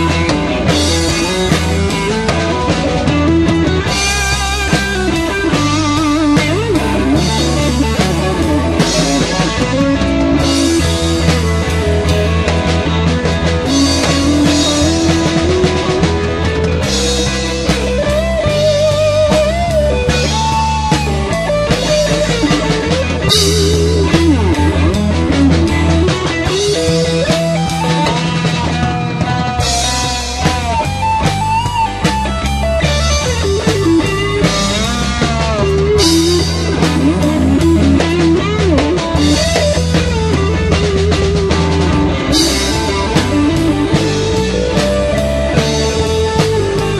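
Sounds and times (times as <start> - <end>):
bass guitar: 0.0 - 46.9
drum kit: 0.0 - 46.9
electric guitar lead: 0.0 - 46.9.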